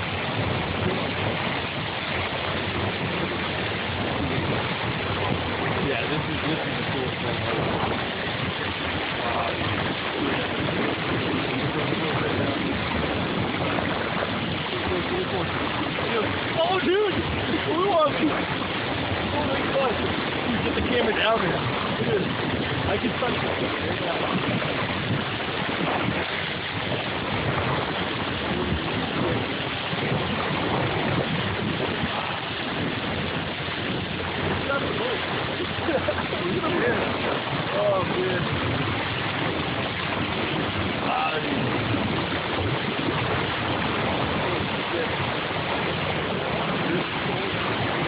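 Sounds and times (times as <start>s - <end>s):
boat motor humming: 0.0s - 48.0s
water rushing along boat hull: 0.0s - 48.0s
wind noise: 0.0s - 48.0s.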